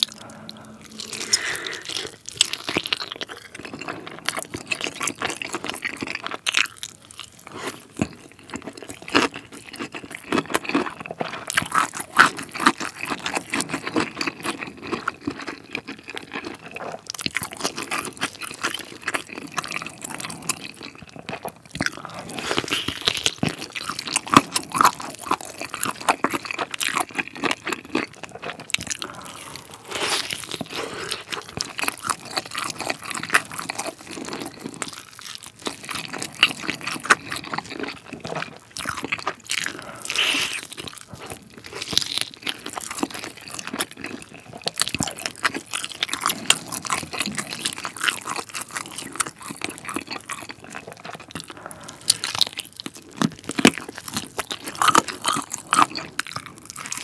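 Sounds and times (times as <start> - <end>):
chewing and crunching chicken: 0.0 - 57.0.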